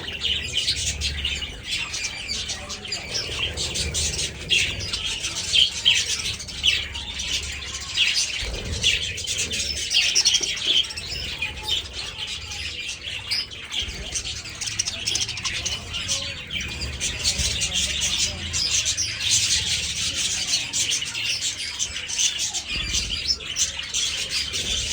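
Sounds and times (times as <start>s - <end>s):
budgerigars chirping: 0.0s - 24.9s.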